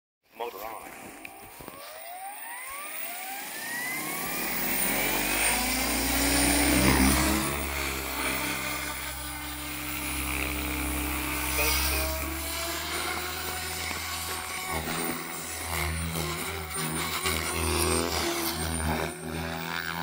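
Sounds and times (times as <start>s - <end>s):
electric helicopter motor whine: 0.4s - 20.0s
rotor humming: 0.4s - 20.0s.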